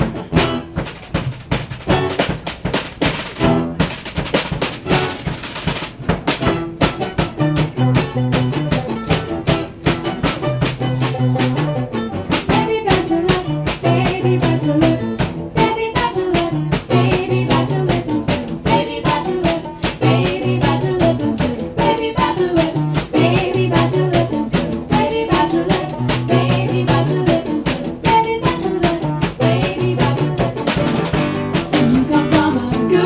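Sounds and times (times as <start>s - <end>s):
acoustic guitars strummed: 0.0s - 33.0s
drum kit steady beat: 0.0s - 33.0s
banjo: 3.1s - 33.0s
mandolin: 3.2s - 33.0s.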